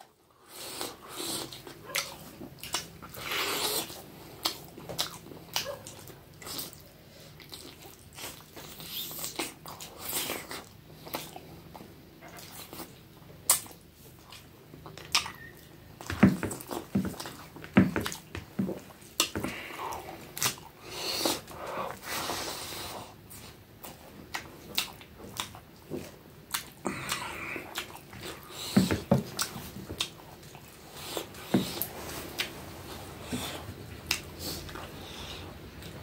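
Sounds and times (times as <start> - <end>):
wet chewing and lip-smacking: 0.6 - 22.0, 23.2 - 32.6, 33.3 - 36.0.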